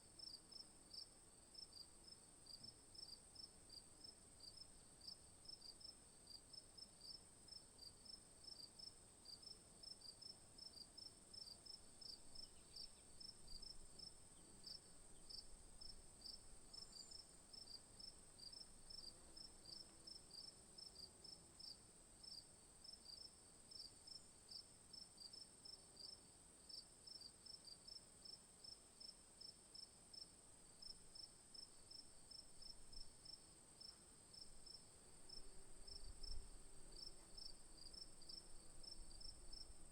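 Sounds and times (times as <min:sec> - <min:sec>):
crickets chirping: 0:07.0 - 0:27.3, 0:27.9 - 0:39.9.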